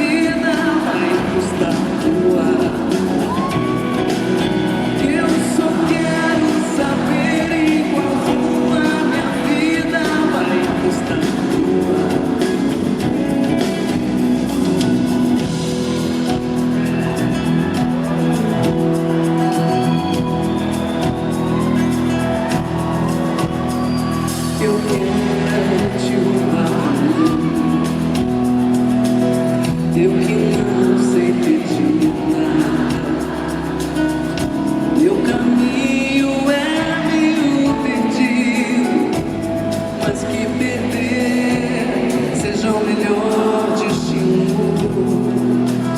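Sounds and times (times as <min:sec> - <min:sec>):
guitar over steady beat: 0:00.0 - 0:45.9
live band instrumental: 0:00.0 - 0:45.9.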